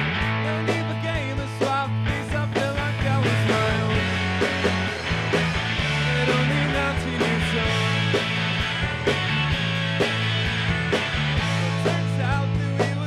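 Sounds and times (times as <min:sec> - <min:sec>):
bass: 0:00.0 - 0:13.0
drum kit beat: 0:00.0 - 0:13.0
electric guitars: 0:00.0 - 0:13.0.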